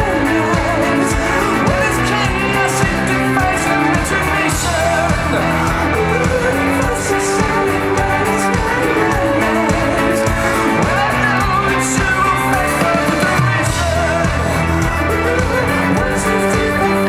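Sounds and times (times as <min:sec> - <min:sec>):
drums: 0:00.0 - 0:17.0
electric guitar: 0:00.0 - 0:17.0
person singing lead vocal: 0:00.0 - 0:17.0.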